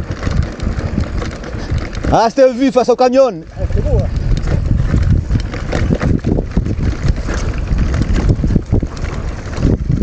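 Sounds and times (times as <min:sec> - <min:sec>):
bike knocks and rattles: 0:00.0 - 0:10.0
wind buffeting microphone: 0:00.0 - 0:10.0.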